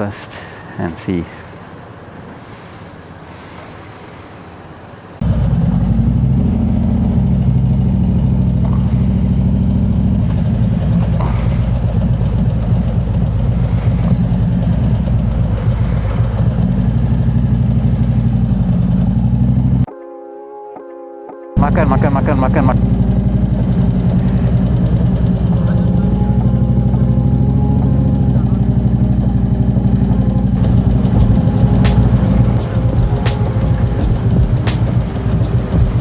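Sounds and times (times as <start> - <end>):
motorcycle engine rumbling: 0.0 - 19.9, 21.6 - 36.0.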